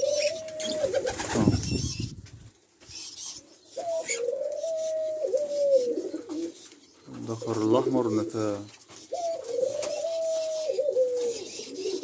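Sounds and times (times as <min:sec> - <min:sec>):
doves cooing: 0:00.0 - 0:02.0, 0:03.3 - 0:12.0.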